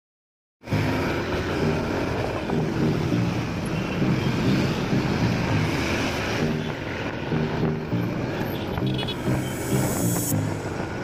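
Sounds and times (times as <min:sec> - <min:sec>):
passing vehicles: 0:00.6 - 0:11.0.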